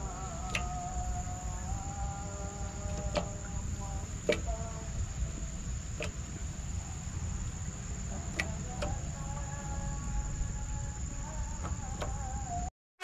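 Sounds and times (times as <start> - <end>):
high insect trill: 0.0 - 12.7.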